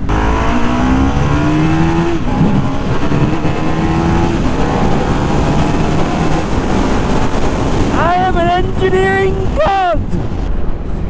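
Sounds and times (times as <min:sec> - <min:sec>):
motorcycle engine accelerating: 0:00.0 - 0:09.6.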